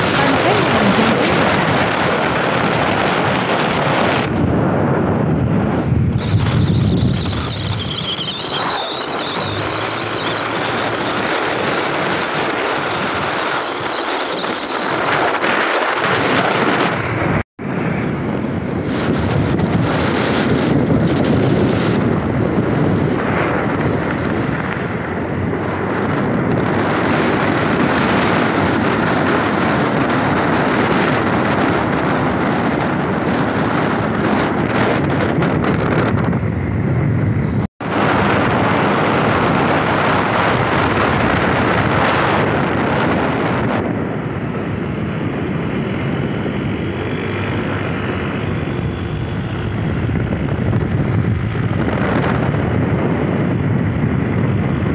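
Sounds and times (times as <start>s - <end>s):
vehicle engine and road noise: 0.0s - 54.9s
wind rushing on microphone: 0.0s - 54.9s.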